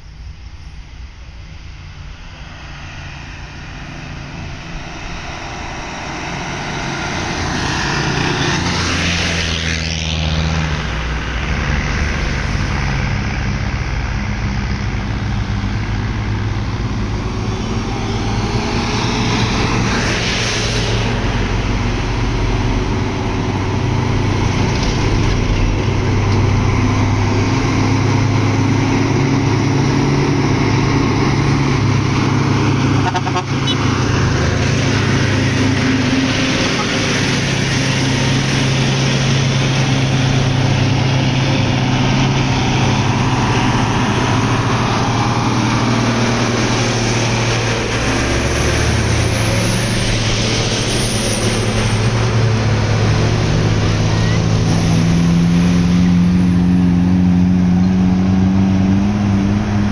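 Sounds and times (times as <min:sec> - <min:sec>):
truck diesel engines climbing: 0:00.0 - 0:59.9.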